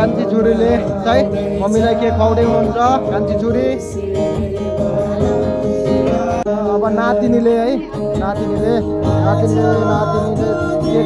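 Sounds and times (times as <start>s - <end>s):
guitar music: 0.0s - 11.0s
person singing: 0.0s - 11.0s.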